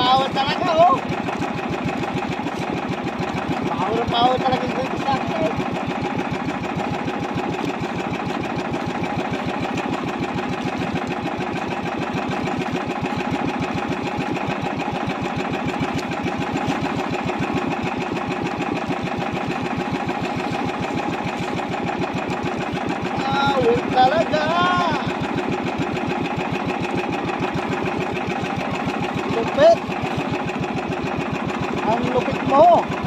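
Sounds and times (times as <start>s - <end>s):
boat engine puttering: 0.0s - 33.0s.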